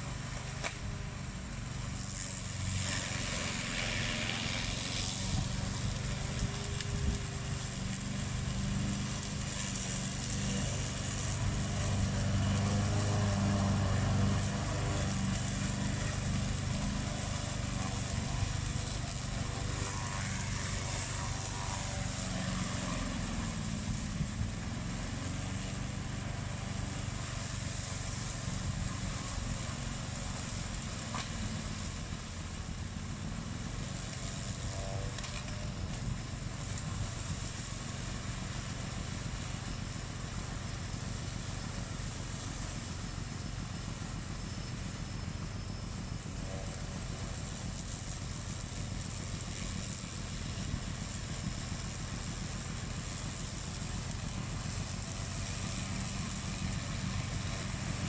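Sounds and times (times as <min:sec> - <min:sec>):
mower engine running: 0:00.0 - 0:58.0.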